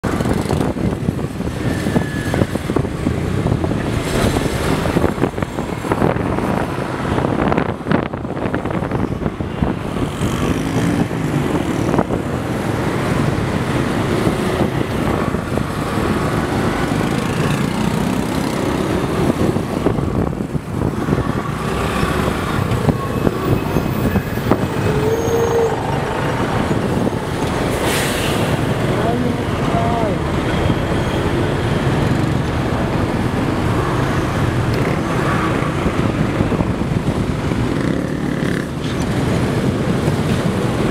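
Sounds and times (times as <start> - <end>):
heavy city traffic engines: 0.0 - 40.9.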